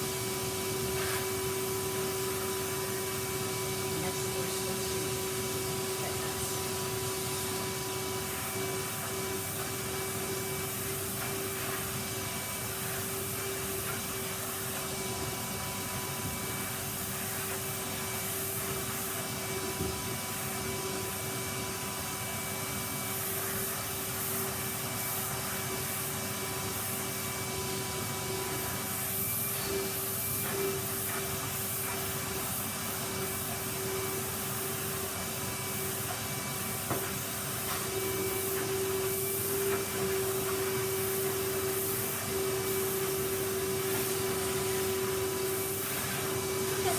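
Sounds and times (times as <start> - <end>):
vacuum cleaner running on carpet: 0.0 - 46.9.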